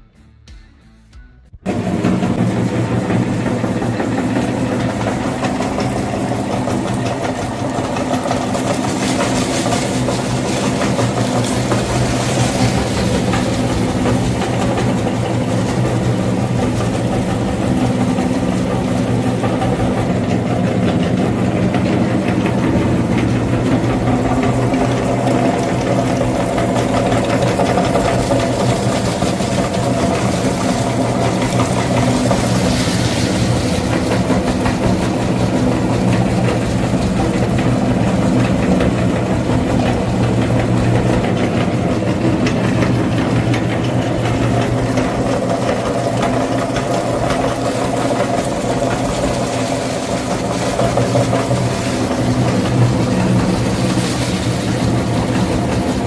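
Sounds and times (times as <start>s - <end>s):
tractor engine idling: 1.7s - 56.0s.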